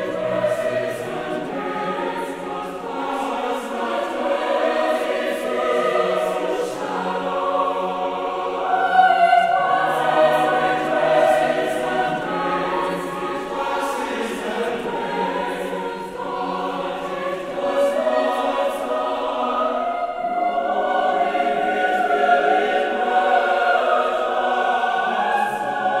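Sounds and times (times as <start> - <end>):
choir singing sustained chords: 0.0 - 26.0.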